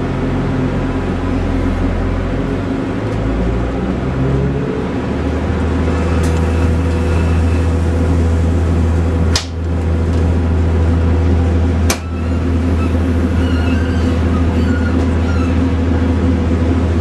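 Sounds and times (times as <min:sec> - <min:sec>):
train diesel engine drone: 0:00.0 - 0:17.0.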